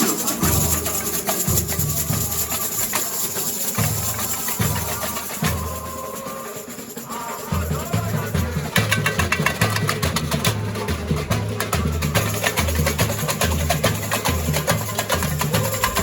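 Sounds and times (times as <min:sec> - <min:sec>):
fast rattling high percussion: 0:00.0 - 0:16.0.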